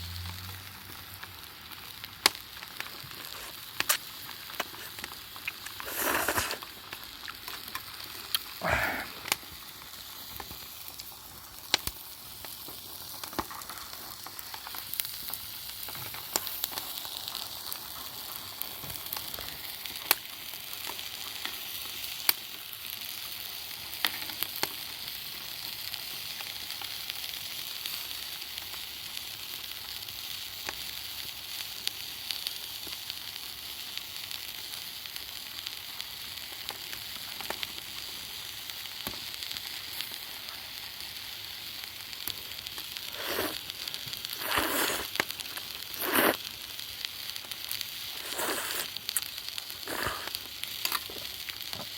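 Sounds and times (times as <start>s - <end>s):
sizzling over campfire: 0.0s - 51.9s
fire pops and crackles: 0.2s - 51.9s.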